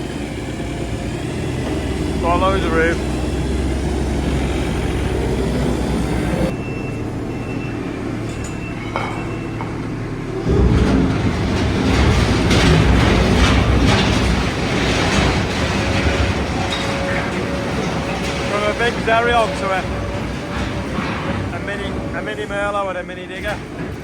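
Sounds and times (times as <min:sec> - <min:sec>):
machine clanking and clattering: 0:00.0 - 0:06.6, 0:08.2 - 0:24.0
diesel engine running: 0:00.0 - 0:24.0.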